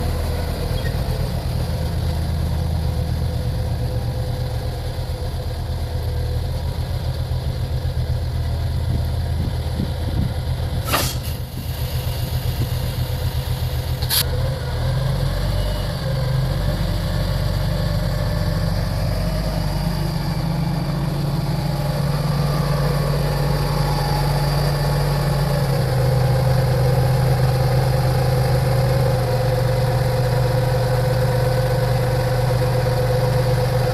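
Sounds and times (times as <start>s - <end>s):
heavy vehicle engine idling: 0.0s - 33.9s.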